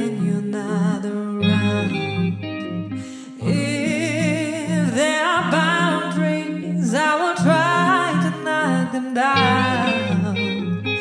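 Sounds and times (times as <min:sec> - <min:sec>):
woman singing into microphone: 0:00.0 - 0:02.4, 0:03.3 - 0:11.0
clean electric guitar picking: 0:00.0 - 0:11.0.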